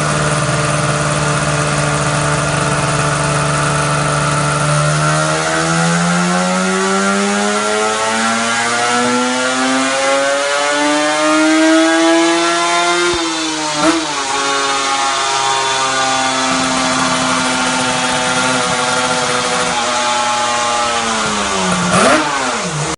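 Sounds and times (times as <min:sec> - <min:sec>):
two-stroke motorcycle engine revving: 0:00.0 - 0:22.9.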